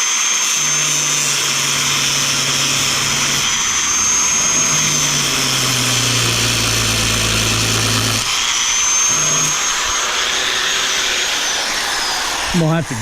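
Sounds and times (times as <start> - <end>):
cut-off wheel grinding metal: 0.0 - 12.6.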